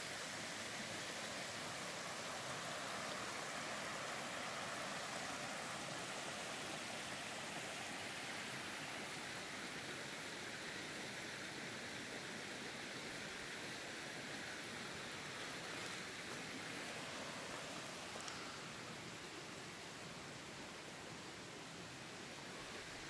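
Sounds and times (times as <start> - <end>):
creek flowing over rocks: 0.0 - 23.0.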